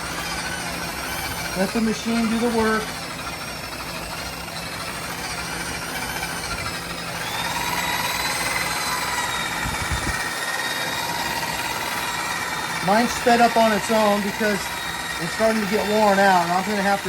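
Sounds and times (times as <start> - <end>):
electric polisher whining: 0.0 - 17.0.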